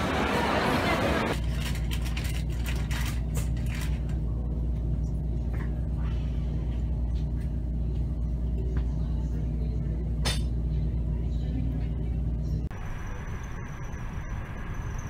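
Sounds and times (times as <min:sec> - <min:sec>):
low mechanical hum and rumble: 0:00.0 - 0:15.0.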